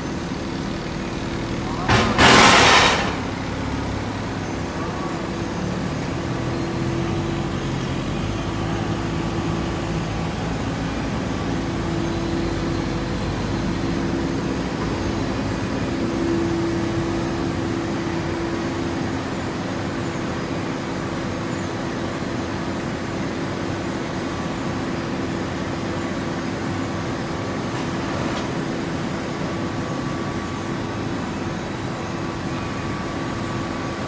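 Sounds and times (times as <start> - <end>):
baling press machine hum: 0.0 - 34.0.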